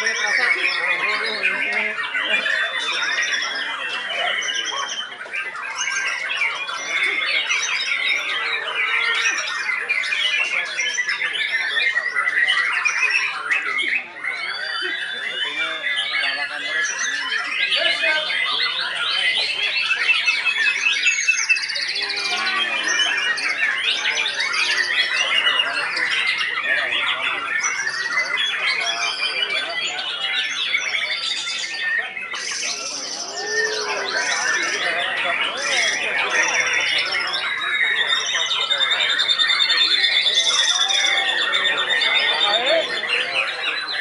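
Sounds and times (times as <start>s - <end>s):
other songbirds singing: 0.0s - 44.0s.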